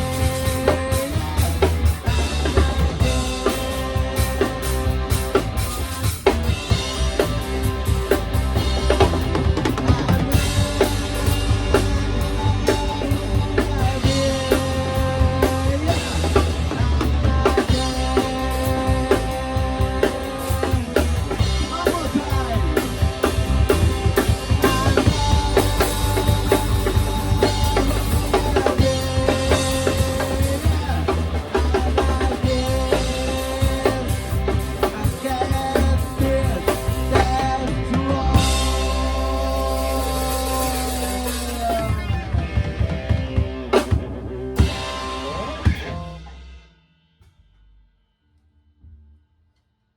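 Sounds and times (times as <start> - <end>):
sustained guitar chords: 0.0 - 46.6
drum kit driving beat: 0.0 - 47.4.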